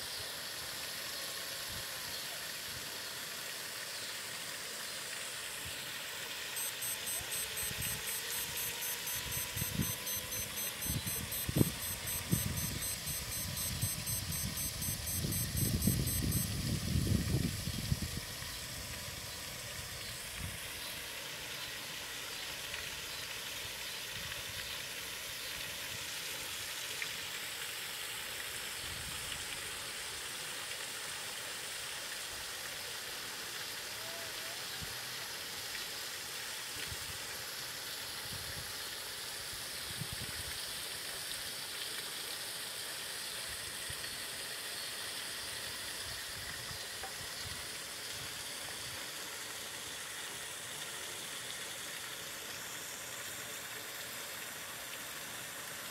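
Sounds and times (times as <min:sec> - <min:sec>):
steady outdoor hiss: 0:00.0 - 0:55.9.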